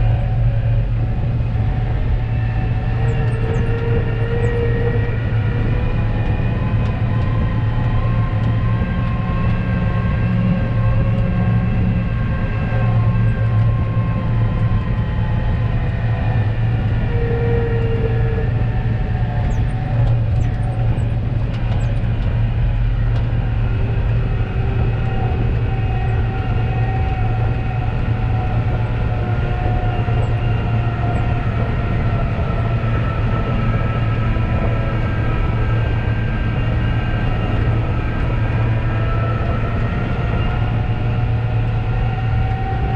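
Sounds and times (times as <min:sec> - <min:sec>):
heavy diesel engine drone: 0:00.0 - 0:42.9.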